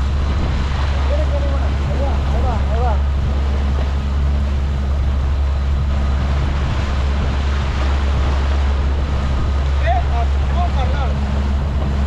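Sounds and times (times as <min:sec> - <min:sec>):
outboard motor running: 0:00.0 - 0:12.0
water rushing past hull: 0:00.0 - 0:12.0.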